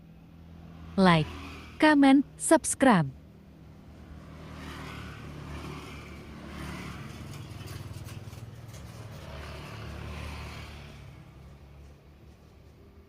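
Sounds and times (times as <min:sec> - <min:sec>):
vehicles passing: 0:00.0 - 0:13.0.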